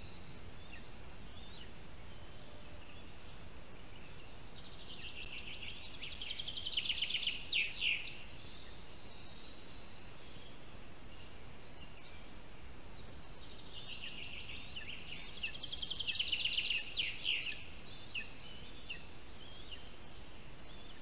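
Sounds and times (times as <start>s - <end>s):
woodland background hiss: 0.0s - 21.0s.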